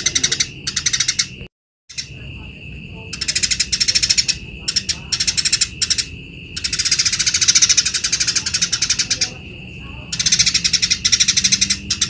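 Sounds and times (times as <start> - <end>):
sparrow chattering trill: 0.0 - 2.3, 3.0 - 12.0.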